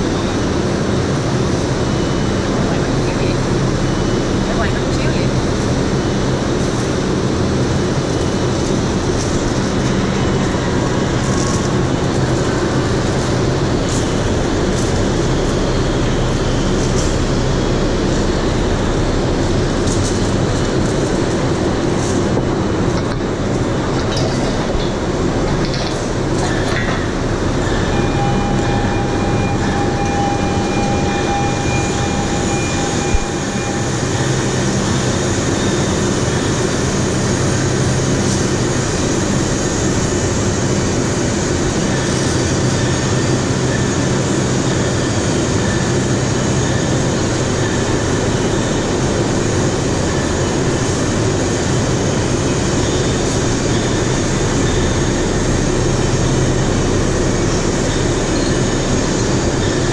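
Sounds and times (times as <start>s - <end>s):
crane mechanical drone: 0.0s - 59.9s
thin whine: 0.0s - 59.9s.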